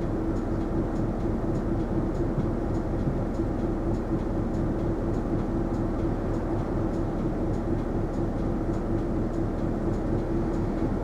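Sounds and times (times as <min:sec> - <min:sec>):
bus engine and road drone: 0:00.0 - 0:11.0
constant hum: 0:00.0 - 0:11.0
faint ticks: 0:00.2 - 0:10.9.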